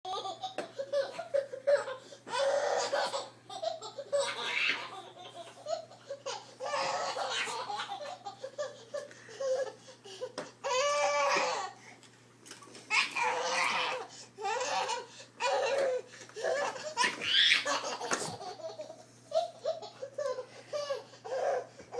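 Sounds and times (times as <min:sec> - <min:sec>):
baby laughing: 0:00.1 - 0:11.7, 0:12.9 - 0:21.7.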